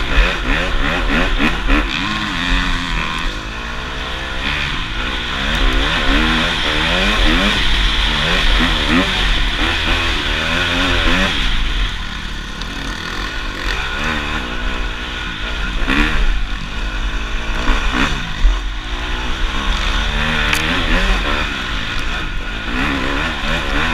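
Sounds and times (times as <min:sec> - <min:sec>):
dirt bike engine revving: 0:00.0 - 0:23.9.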